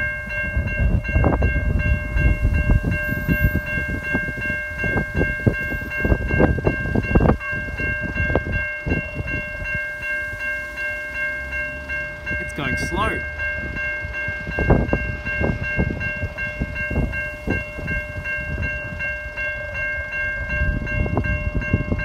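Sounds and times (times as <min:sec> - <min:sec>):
level crossing bells ringing: 0:00.0 - 0:22.0
train rumble with knocks: 0:00.0 - 0:22.0.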